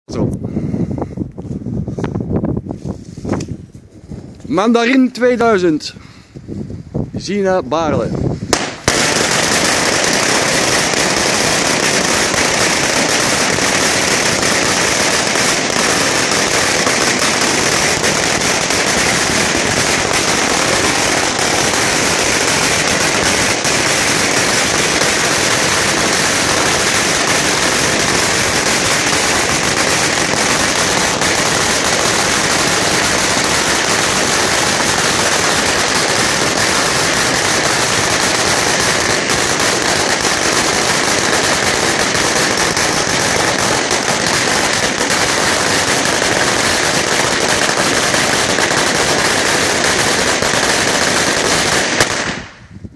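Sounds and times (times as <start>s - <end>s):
firecrackers rattling bangs: 8.5s - 52.6s.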